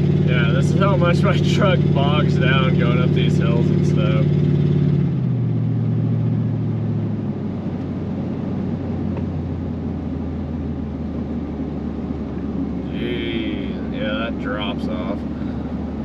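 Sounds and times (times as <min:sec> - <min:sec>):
road noise: 0:00.0 - 0:16.0
truck engine hum inside cab: 0:00.0 - 0:16.0.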